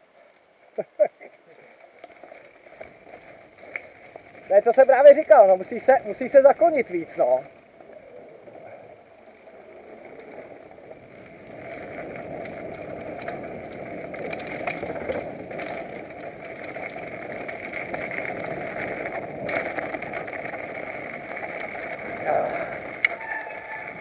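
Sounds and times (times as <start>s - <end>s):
bike tyre noise on trail: 0.0s - 24.0s
bike rattling over stones: 1.0s - 24.0s.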